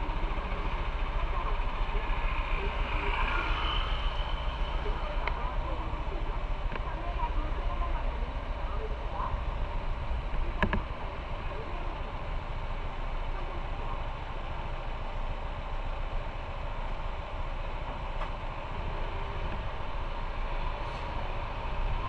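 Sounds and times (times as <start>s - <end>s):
motorcycle engine running: 0.0s - 22.0s
road noise: 0.0s - 22.0s.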